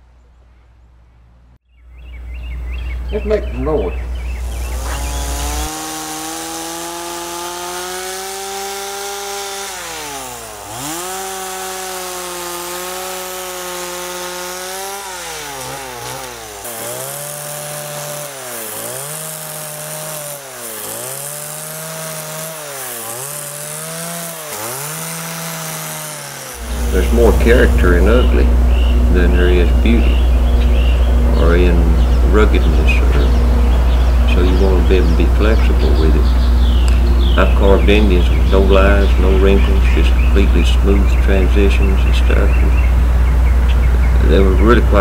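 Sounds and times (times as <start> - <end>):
chainsaw cutting wood: 4.2 - 42.8.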